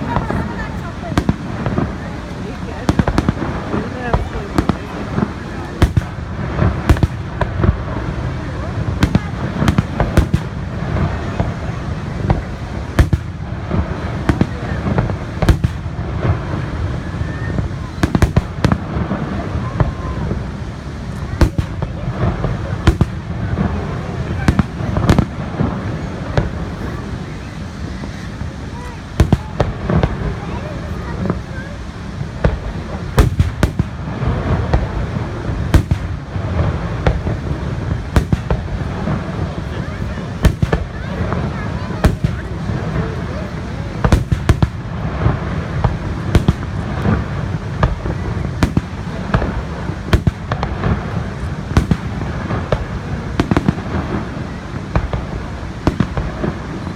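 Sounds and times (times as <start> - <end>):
fireworks bangs: 0.0 - 56.9
steady low rumble: 0.0 - 56.9.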